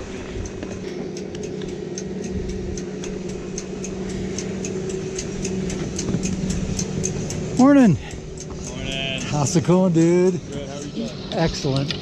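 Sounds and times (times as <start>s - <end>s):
chairlift machinery humming: 0.0s - 12.0s
regular mechanical ticking: 0.0s - 12.0s.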